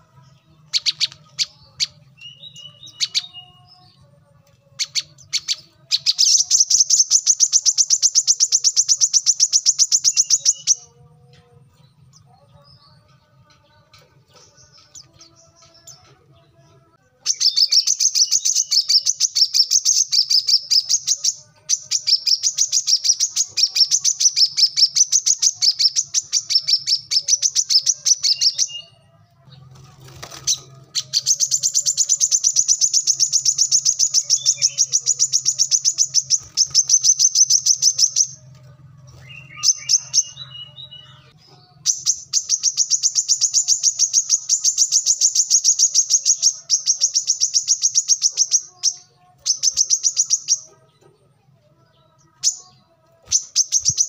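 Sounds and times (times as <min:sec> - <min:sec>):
bird singing fast chirps: 0:00.0 - 0:04.0, 0:04.8 - 0:10.9, 0:17.2 - 0:29.0, 0:30.1 - 0:50.7, 0:52.0 - 0:54.0.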